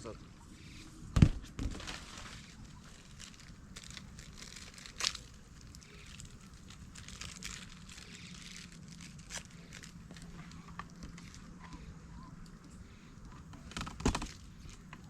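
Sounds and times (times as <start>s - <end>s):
inflatable boat crinkling and rustling: 1.0s - 15.0s.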